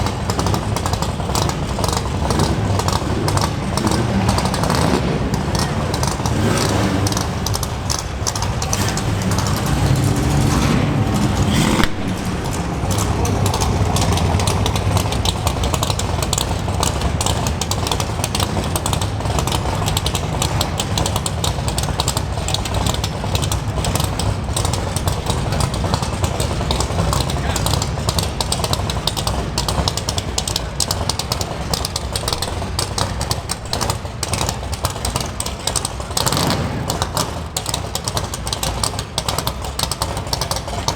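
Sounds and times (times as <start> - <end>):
car exhaust rumbling: 0.0 - 40.9.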